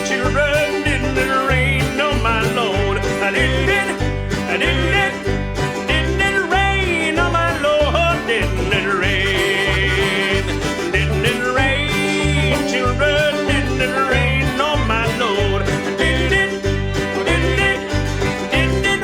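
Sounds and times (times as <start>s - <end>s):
acoustic string band playing: 0.0s - 19.0s
steady bass beat: 0.0s - 19.0s.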